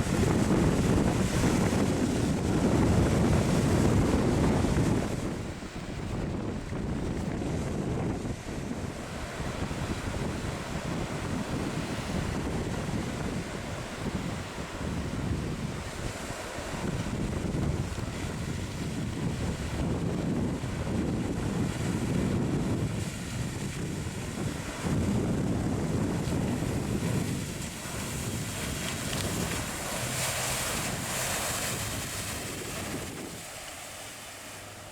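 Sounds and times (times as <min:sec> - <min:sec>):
ocean surf: 0:00.0 - 0:34.9
wind buffeting microphone: 0:00.0 - 0:34.9.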